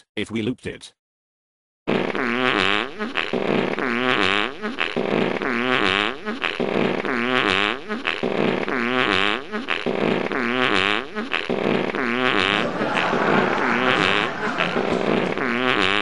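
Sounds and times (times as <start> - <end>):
brassy fart sound: 1.9 - 16.0.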